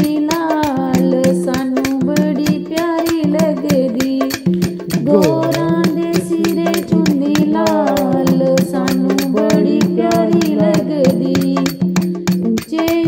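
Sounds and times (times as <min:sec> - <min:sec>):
fast steady percussion beat: 0:00.0 - 0:13.0.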